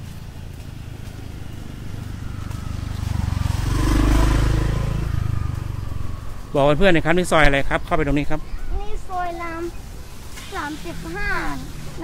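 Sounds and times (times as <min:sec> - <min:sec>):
motor scooter riding past: 0:00.0 - 0:12.0.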